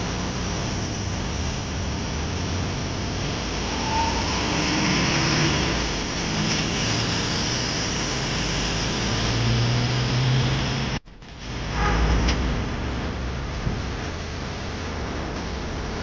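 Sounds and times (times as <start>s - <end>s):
bus engine rumble and hum: 0.0s - 15.8s.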